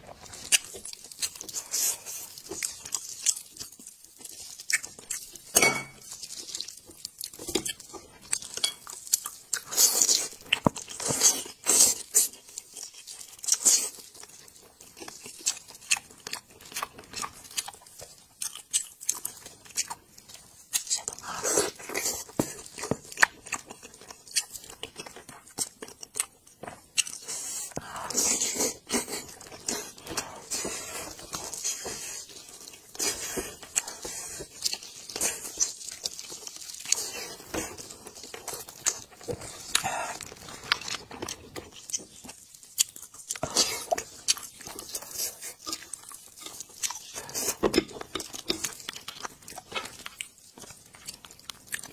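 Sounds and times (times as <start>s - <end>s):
chewing and biting: 0.1s - 51.9s.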